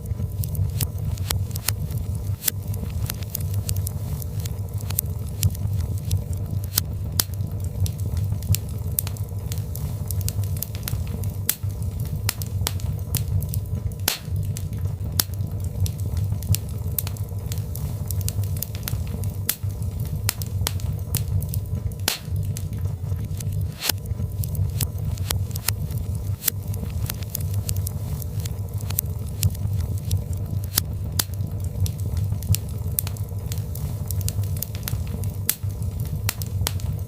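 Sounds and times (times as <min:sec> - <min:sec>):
fire crackling and popping: 0:00.0 - 0:37.0
low rumble of flames: 0:00.0 - 0:37.0.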